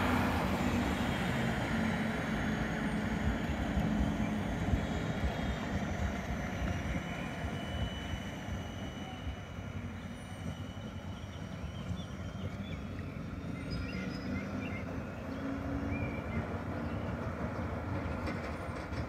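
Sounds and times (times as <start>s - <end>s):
tram rolling on track: 0.0s - 19.0s.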